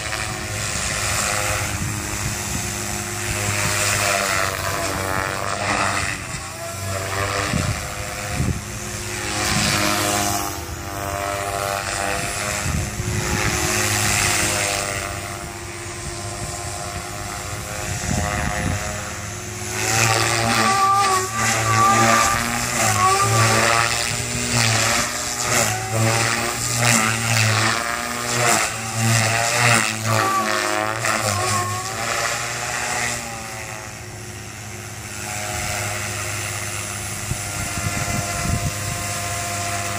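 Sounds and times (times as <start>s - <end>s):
rc helicopter whining: 0.0s - 39.9s.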